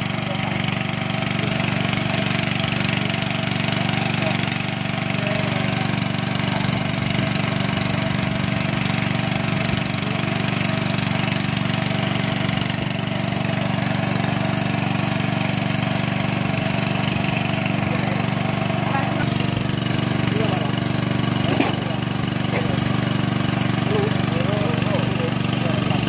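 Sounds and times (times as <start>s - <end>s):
engine-driven water pump running: 0.0s - 26.0s.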